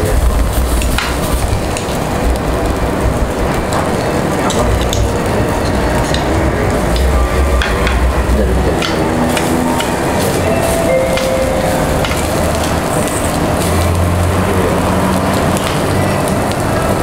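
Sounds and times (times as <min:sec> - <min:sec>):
meat sizzling on a grill: 0:00.0 - 0:17.0
ventilation rumble: 0:00.0 - 0:17.0.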